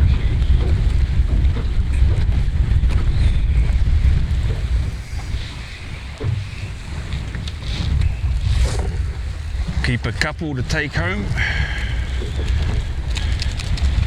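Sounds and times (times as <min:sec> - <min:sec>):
strong wind buffeting microphone: 0:00.0 - 0:14.0
faint clicks: 0:00.1 - 0:14.0.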